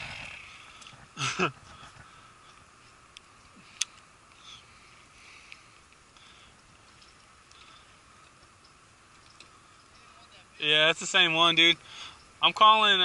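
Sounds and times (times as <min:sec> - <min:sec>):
faint outdoor background hiss: 0:00.0 - 0:13.0.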